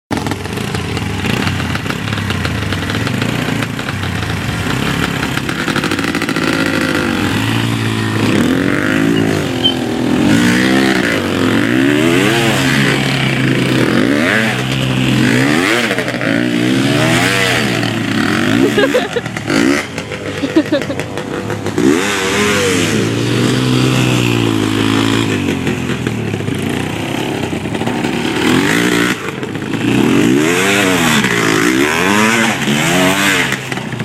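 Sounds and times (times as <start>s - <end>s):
dirt bike engine revving: 0.1s - 34.0s.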